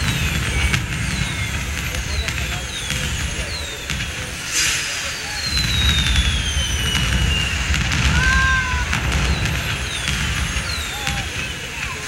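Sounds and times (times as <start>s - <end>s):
low rumbling boom: 0.0s - 11.5s
firework falling whistle: 0.0s - 12.0s.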